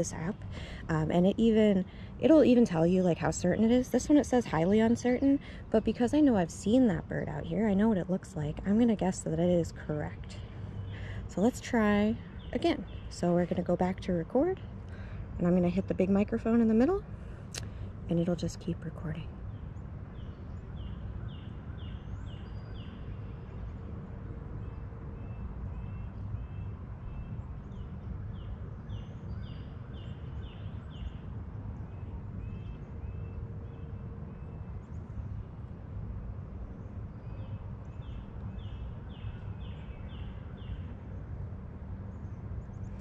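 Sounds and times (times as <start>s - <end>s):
low background rumble: 0.0s - 43.0s.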